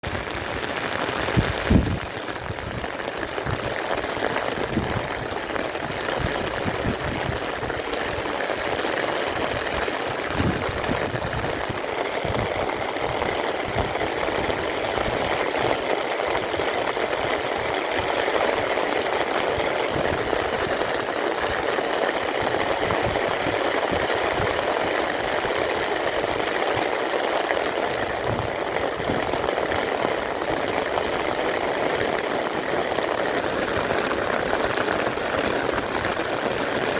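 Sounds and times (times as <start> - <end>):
running water: 0.0 - 36.9
steady rain: 0.0 - 36.9.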